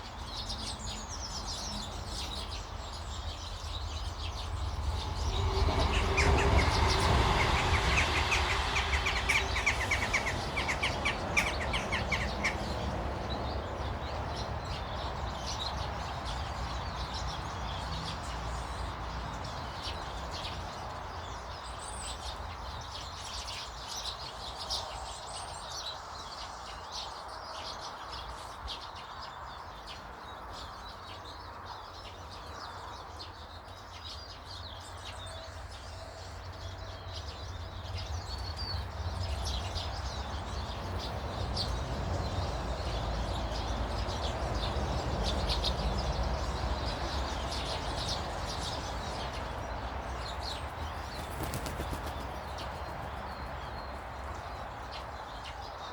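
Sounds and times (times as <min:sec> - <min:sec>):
birds chirping: 0:00.0 - 0:25.5, 0:28.6 - 0:55.9.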